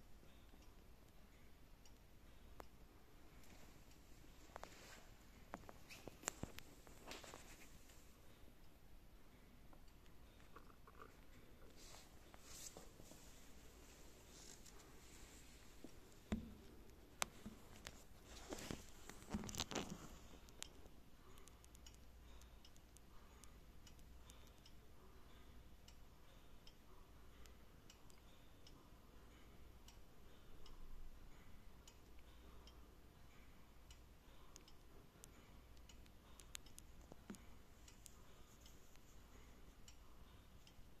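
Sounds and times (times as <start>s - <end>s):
low steady hum: 0.0s - 41.0s
mechanical clock ticking: 0.0s - 41.0s.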